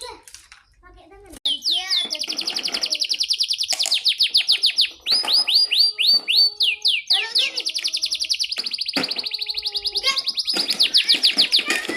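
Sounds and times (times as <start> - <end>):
canary singing trills: 1.4 - 11.9.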